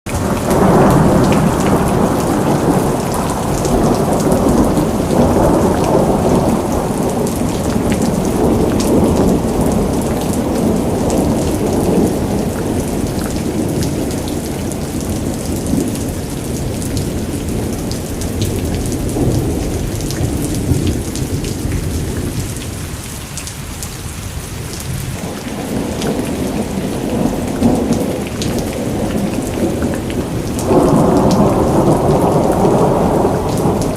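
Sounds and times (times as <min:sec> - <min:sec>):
rolling thunder: 0:00.1 - 0:23.0, 0:24.7 - 0:33.9
rain falling: 0:00.1 - 0:33.9.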